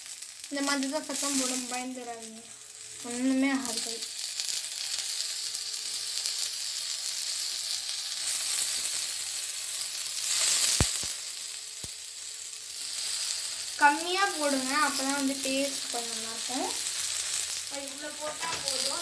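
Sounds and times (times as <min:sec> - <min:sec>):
banana slices sizzling on griddle: 0:00.0 - 0:19.0.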